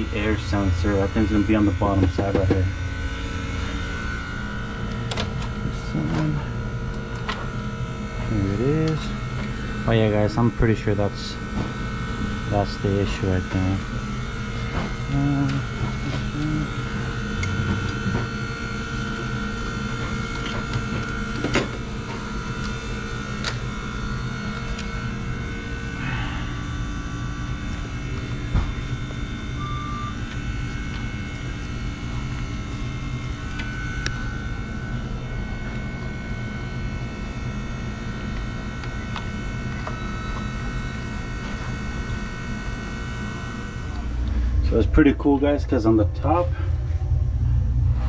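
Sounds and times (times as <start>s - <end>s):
mechanical hum with steady tones: 0.0s - 48.0s.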